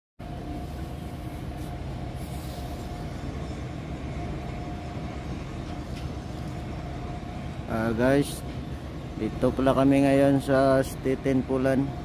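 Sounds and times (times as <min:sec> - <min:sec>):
faint constant hum: 0:00.2 - 0:12.0
ship machinery rumble: 0:00.2 - 0:12.0.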